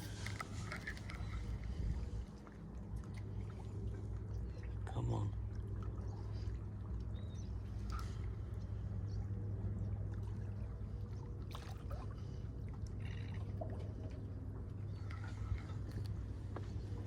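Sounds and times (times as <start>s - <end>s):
steady low rumble: 0.0s - 17.0s
water lapping at shoreline: 0.0s - 17.0s.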